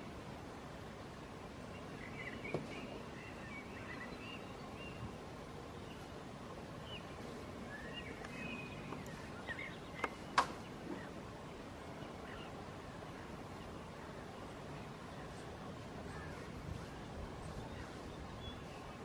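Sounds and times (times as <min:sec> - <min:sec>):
birds chirping faintly: 0:00.0 - 0:19.0
outdoor background hiss: 0:00.0 - 0:19.0.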